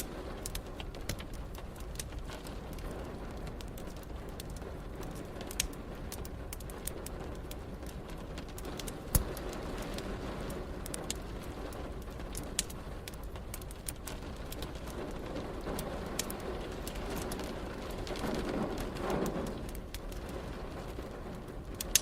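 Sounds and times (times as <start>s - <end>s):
rain hissing: 0.0s - 22.0s
wood fire crackling and popping: 0.0s - 22.0s.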